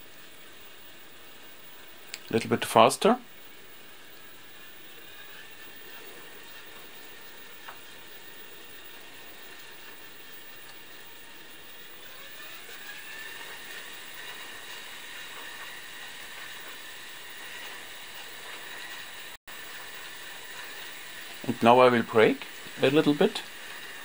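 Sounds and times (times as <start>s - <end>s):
electric motor whine: 4.1s - 24.0s
hiss: 4.5s - 24.0s.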